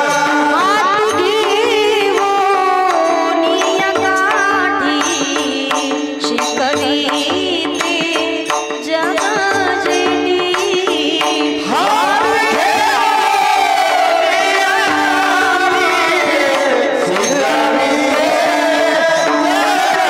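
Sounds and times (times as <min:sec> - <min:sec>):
percussion strokes: 0:00.0 - 0:20.0.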